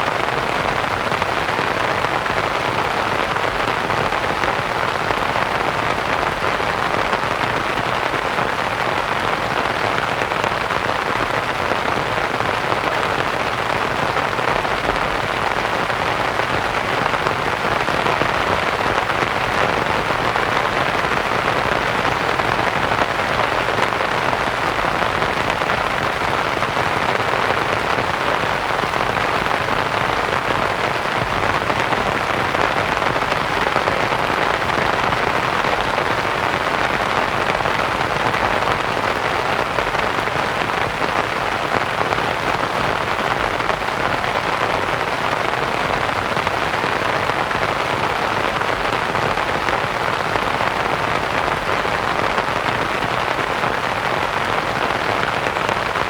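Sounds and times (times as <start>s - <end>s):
rain pattering on a tent: 0.0s - 56.0s
white-noise hiss: 0.0s - 56.0s.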